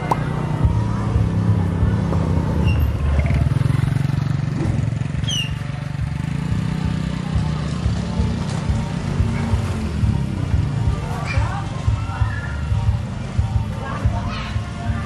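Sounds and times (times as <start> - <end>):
motorcycle engine passing by: 0.0 - 15.0
traffic hum: 0.0 - 15.0.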